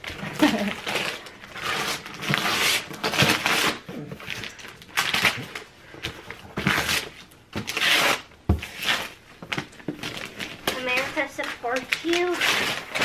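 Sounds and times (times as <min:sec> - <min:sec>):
wrapping paper tearing: 0:00.0 - 0:05.7, 0:06.6 - 0:09.2, 0:10.0 - 0:13.0.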